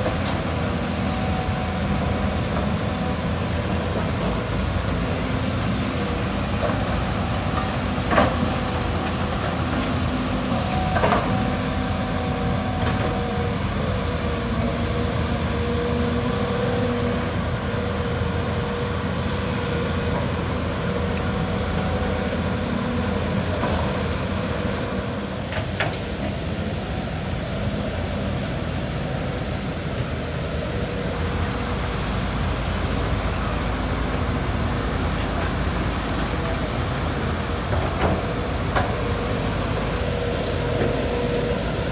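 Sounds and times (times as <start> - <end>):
excavator diesel engine running: 0.0 - 41.9
hydraulic whine: 0.0 - 41.9.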